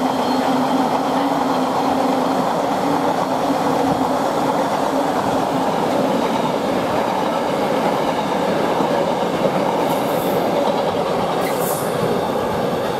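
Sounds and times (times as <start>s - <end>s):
freight train wheels rumbling: 0.0s - 12.9s.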